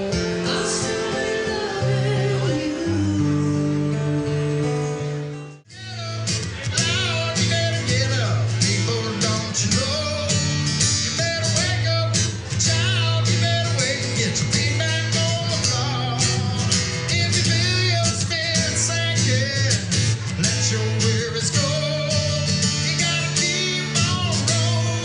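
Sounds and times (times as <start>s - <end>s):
strummed acoustic guitar: 0.0s - 25.0s
man singing: 0.2s - 3.3s, 5.7s - 25.0s.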